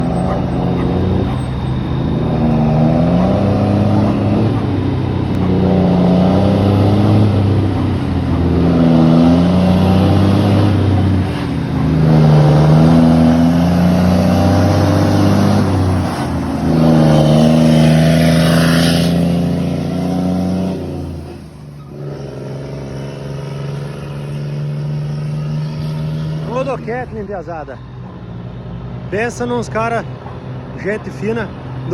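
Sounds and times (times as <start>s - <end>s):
truck diesel engine revving: 0.0s - 31.9s.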